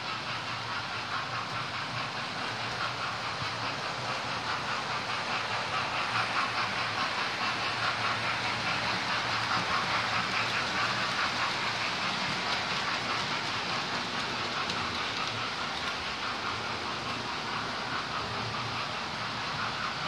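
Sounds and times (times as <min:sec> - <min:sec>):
wheels clicking over rail joints: 0:00.0 - 0:20.0.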